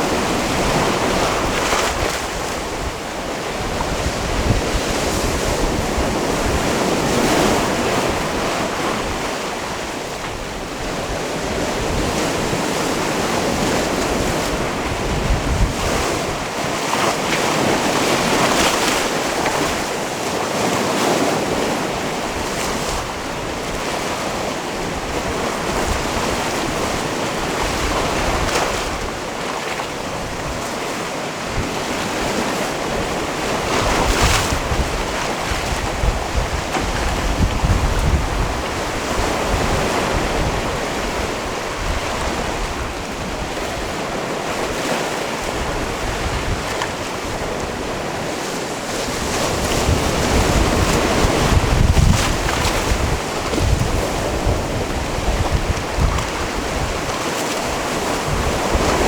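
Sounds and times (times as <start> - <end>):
wind buffeting microphone: 0.0 - 20.0, 31.4 - 59.0
waves washing on rocky shore: 0.0 - 59.0.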